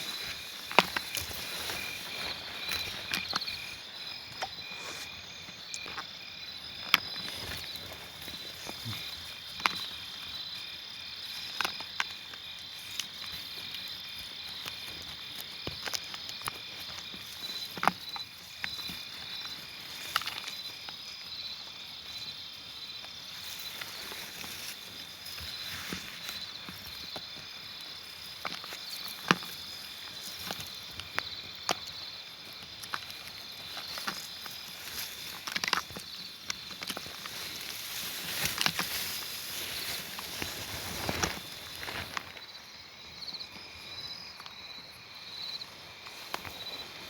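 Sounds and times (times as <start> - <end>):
rustling through dry vegetation: 0.0 - 15.4, 22.1 - 43.9, 45.2 - 47.0
insects trilling: 0.0 - 47.0.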